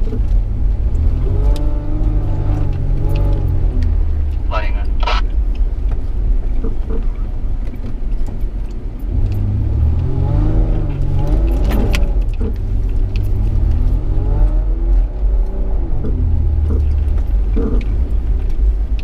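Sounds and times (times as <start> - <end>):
vehicle engine revving: 0.0 - 7.8, 9.0 - 19.0.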